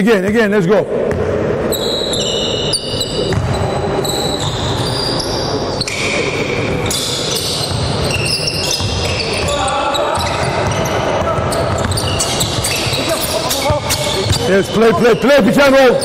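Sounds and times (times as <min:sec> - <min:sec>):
sneaker squeaks: 0:01.6 - 0:16.0.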